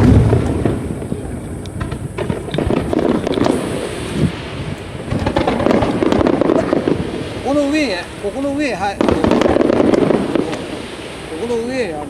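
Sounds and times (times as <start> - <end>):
fireworks booming: 0.0 - 12.0
fireworks pops and crackles: 0.0 - 12.0.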